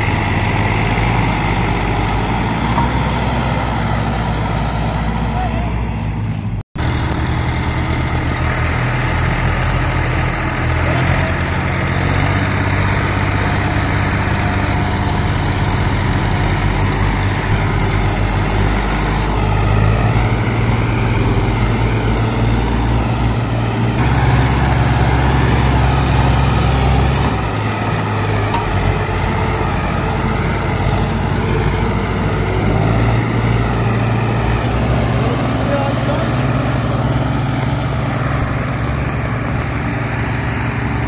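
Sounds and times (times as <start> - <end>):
diesel tractor engines under load: 0.0 - 41.0.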